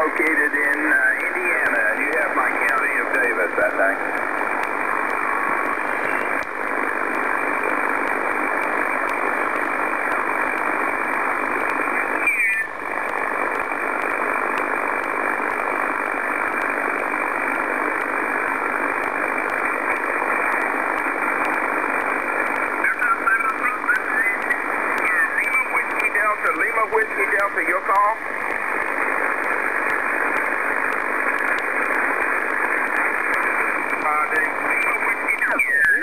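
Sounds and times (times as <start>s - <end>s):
radio band noise hiss: 0.0s - 36.0s
warbling radio chirp: 0.0s - 36.0s.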